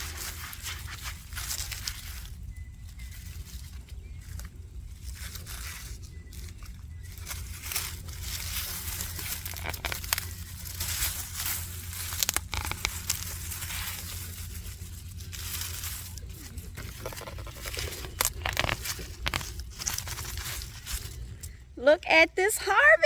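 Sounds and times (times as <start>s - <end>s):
plants pulled from soil: 0.0s - 23.0s
steady low rumble: 0.0s - 23.0s.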